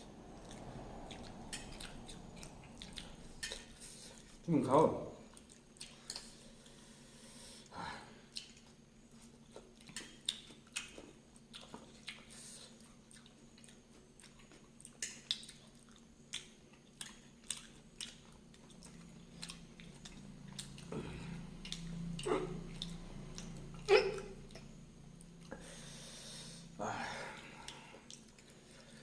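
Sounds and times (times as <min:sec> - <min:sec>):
chewing with wet crunches: 0:00.2 - 0:04.5, 0:05.2 - 0:06.8, 0:07.6 - 0:25.8, 0:27.4 - 0:29.0.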